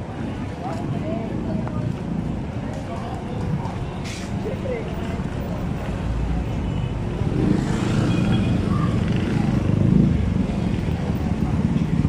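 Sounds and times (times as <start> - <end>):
motor vehicles passing: 0.0 - 12.0.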